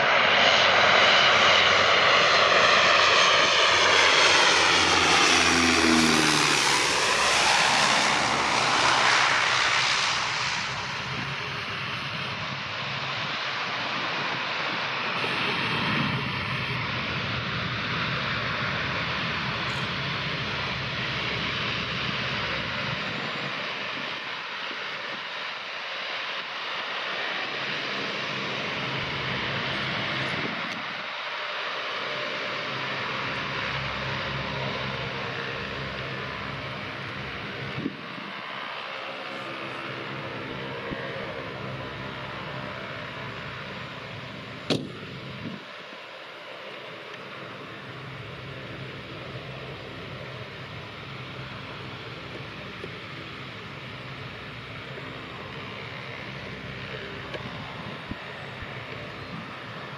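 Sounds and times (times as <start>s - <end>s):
propeller airliner passing: 0.0s - 59.9s.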